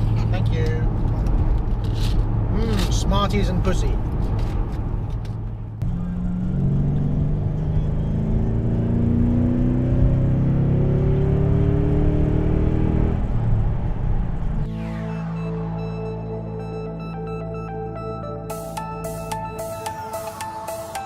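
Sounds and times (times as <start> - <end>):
car engine accelerating: 0.0 - 17.8.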